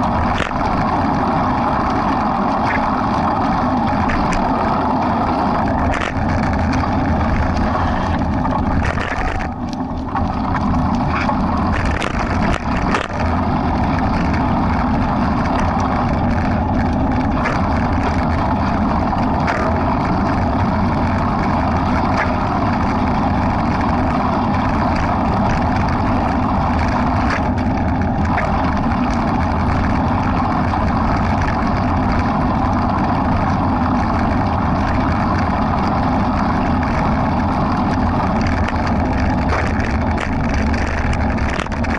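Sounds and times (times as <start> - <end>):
wind rush on microphone: 0.0 - 41.9.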